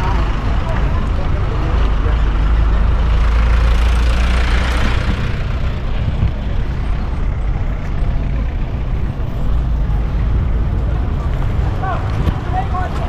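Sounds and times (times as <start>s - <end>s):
bus engine rumbling: 0.0s - 13.0s
city street traffic: 0.0s - 13.0s.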